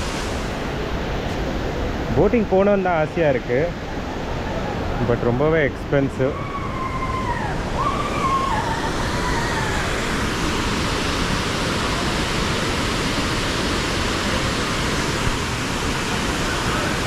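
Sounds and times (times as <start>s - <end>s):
fast river water: 0.0s - 17.0s
waterfall rushing: 0.0s - 17.0s.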